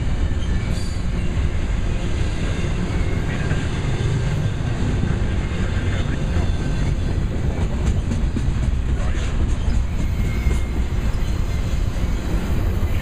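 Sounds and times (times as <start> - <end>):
steel wheels rumbling on track: 0.0 - 13.0.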